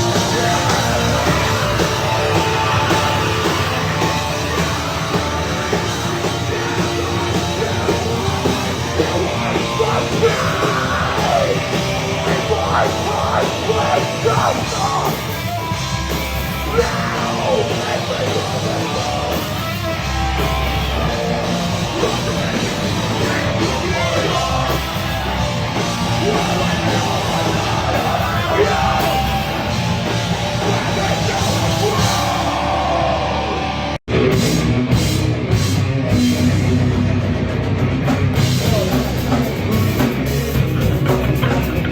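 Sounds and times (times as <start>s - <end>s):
yelled vocals: 0.0s - 34.9s, 38.0s - 41.9s
heavy rock music: 0.0s - 41.9s.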